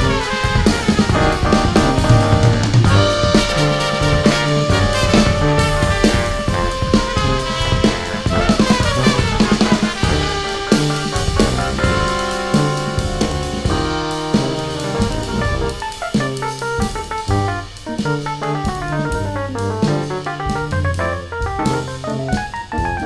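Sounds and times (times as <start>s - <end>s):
brass band jazz: 0.0s - 23.0s
drum kit playing: 0.0s - 23.0s.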